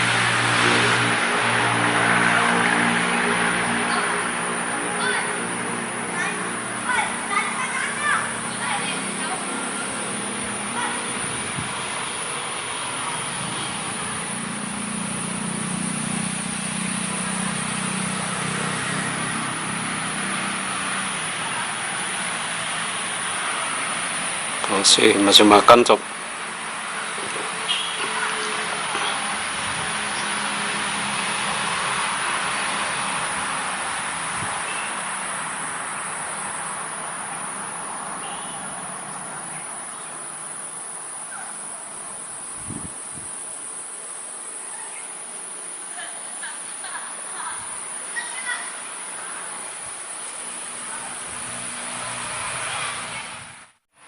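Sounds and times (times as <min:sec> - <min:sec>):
high-pitched whine: 0:00.0 - 0:44.8
insect chorus drone: 0:00.0 - 0:53.6
distant engine hum: 0:00.0 - 0:53.8
steady hiss: 0:00.0 - 0:53.8
broad rushing noise: 0:00.0 - 0:53.9.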